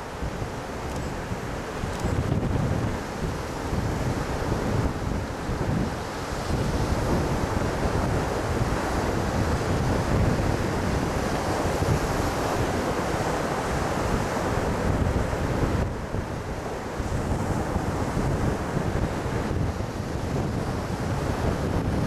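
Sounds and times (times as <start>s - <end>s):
small waves breaking on beach: 0.0s - 22.0s
wind rumbling on microphone: 0.0s - 22.0s.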